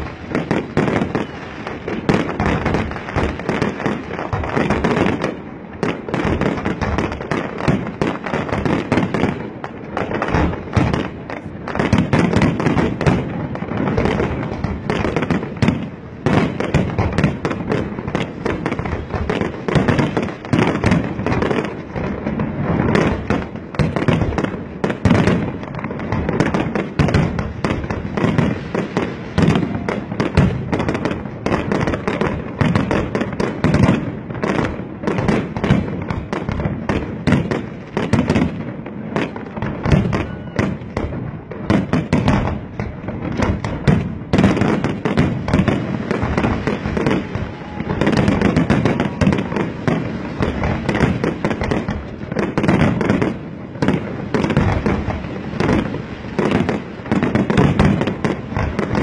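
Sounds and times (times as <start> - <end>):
fireworks bangs and bursts: 0.0 - 59.0.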